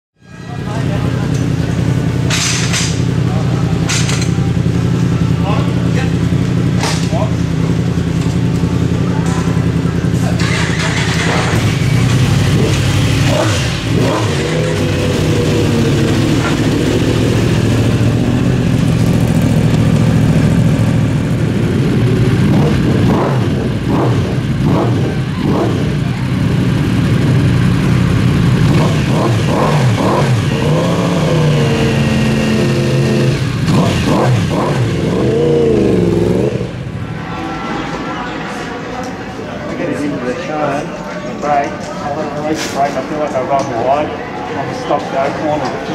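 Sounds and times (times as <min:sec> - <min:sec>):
motorcycle engines revving: 0:00.4 - 0:40.1.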